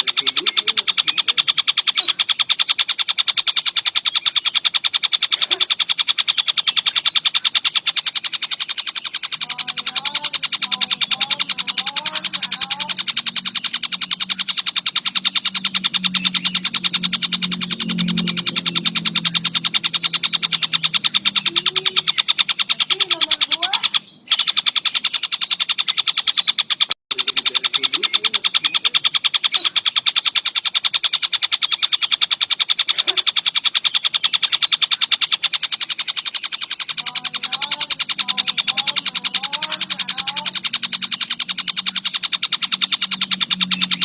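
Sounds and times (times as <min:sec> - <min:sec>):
low hum: 0:00.0 - 0:26.6, 0:27.2 - 0:44.0
kingfisher rapid chatter: 0:00.0 - 0:44.0.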